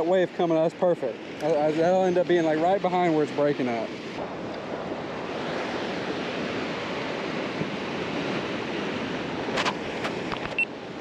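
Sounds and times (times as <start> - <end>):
surf breaking on beach: 0.0 - 11.0
wind on microphone: 0.0 - 11.0.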